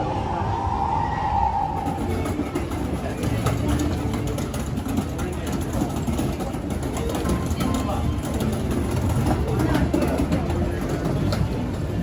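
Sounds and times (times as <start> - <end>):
people's voices: 0.0 - 12.0.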